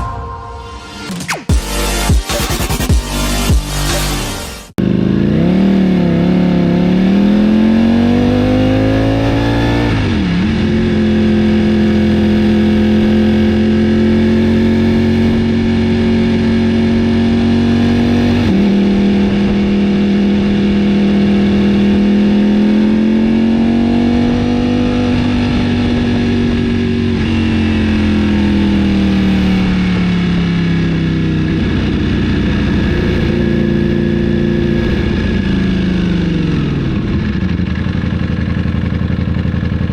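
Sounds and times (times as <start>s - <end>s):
motorcycle engine revving: 2.4s - 39.9s.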